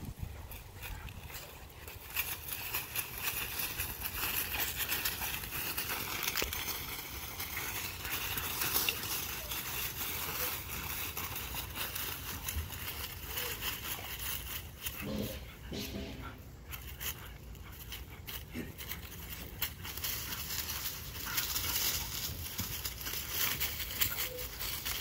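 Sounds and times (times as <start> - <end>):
dry leaves crunching under paws: 0.3 - 15.9, 16.6 - 25.0.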